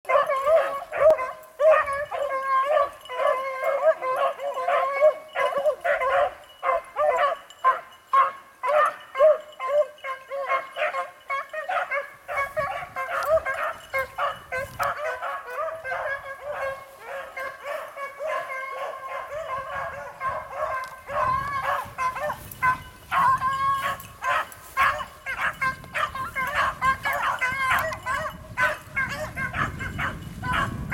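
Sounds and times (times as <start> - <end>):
hounds baying and barking: 0.0 - 30.9.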